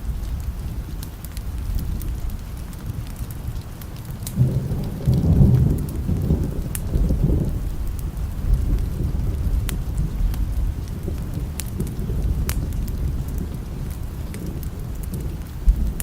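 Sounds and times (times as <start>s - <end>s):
sharp crackles: 0.0s - 16.0s
steady rain: 0.0s - 16.0s
thunder rumbling: 0.0s - 16.0s.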